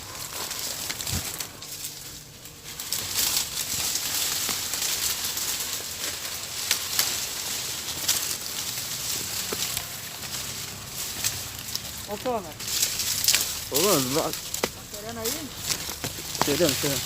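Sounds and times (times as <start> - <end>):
leaves and branches rustling: 0.0 - 17.0
twigs crackling and snapping: 0.0 - 17.0.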